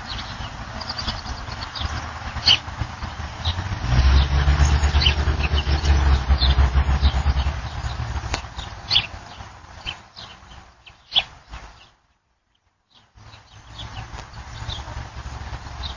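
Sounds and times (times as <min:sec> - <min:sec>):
vehicle engine rumbling: 0:00.0 - 0:11.9, 0:13.1 - 0:15.9
small birds chirping: 0:00.0 - 0:15.9.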